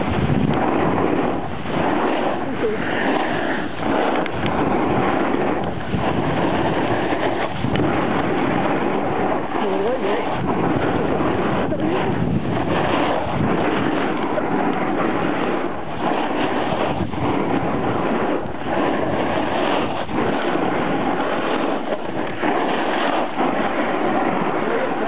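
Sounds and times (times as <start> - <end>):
skis sliding on snow: 0.0 - 7.9, 11.8 - 25.0
wind rushing over microphone: 0.0 - 25.0.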